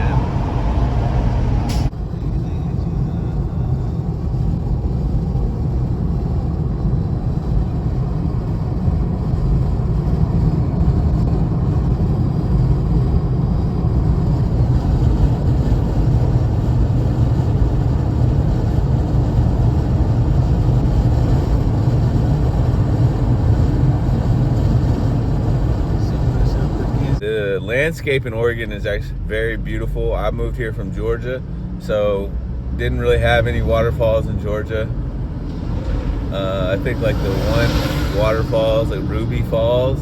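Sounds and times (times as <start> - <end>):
road and engine rumble in car: 0.0 - 40.0.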